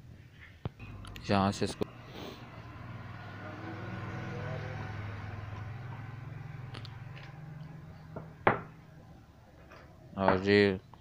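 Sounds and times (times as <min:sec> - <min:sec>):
low mechanical hum: 0:00.6 - 0:10.1.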